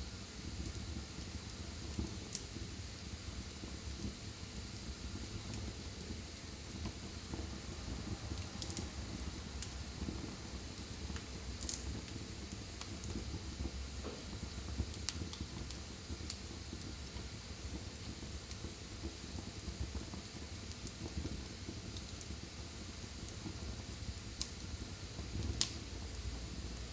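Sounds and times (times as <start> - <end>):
fire crackling and popping: 0.0 - 26.9
fire rumbling and hissing: 0.0 - 26.9.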